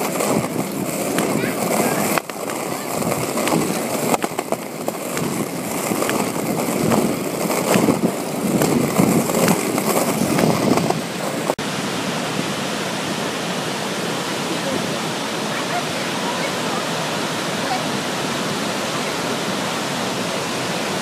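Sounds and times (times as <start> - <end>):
ocean surf: 0.0 - 21.0
skateboard wheels rolling on concrete: 0.0 - 21.0.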